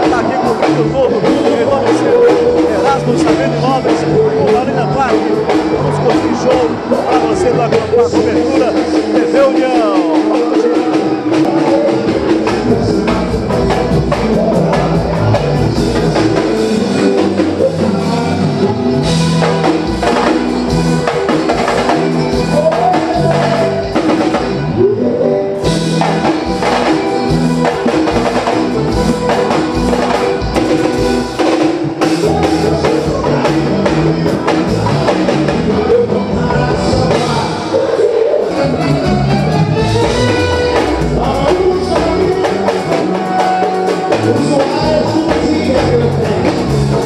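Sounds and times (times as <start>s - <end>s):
live band playing: 0.0s - 47.0s
person singing: 0.0s - 47.0s.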